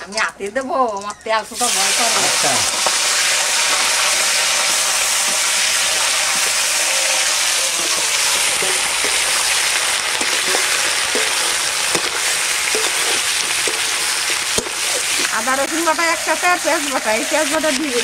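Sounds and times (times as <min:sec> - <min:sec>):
chicken frying in oil: 0:01.5 - 0:18.0.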